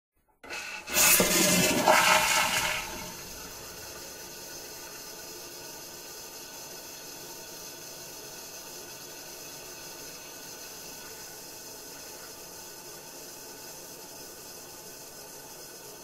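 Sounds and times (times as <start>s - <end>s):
toilet flushing: 0.4s - 16.0s
toilet tank refilling hiss: 0.4s - 16.0s.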